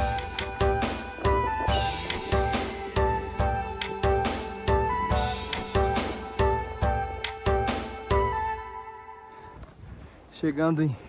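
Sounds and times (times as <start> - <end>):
sustained keyboard chords: 0.0 - 9.3.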